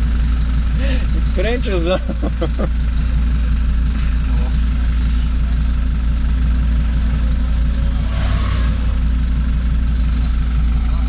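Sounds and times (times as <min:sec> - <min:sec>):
car engine idling without muffler: 0:00.0 - 0:11.0.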